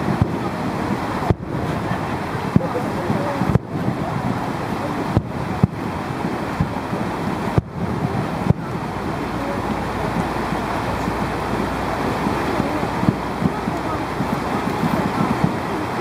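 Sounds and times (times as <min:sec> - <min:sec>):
distant fireworks booming: 0:00.0 - 0:16.0
wind noise on microphone: 0:00.0 - 0:16.0.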